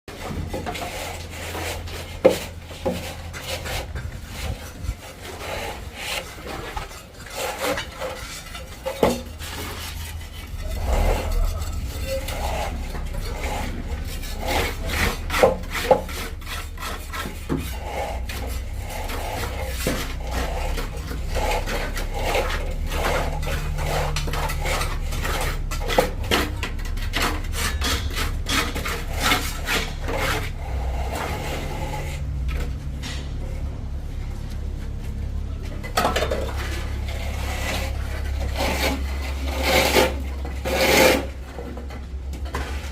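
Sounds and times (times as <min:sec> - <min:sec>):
trowel scraping cement on wall: 0:00.1 - 0:33.4, 0:35.9 - 0:42.9
steady low rumble: 0:00.1 - 0:42.9.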